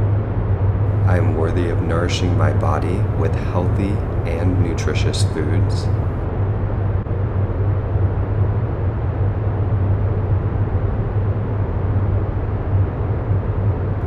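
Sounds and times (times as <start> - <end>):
low droning hum: 0.8 - 14.0.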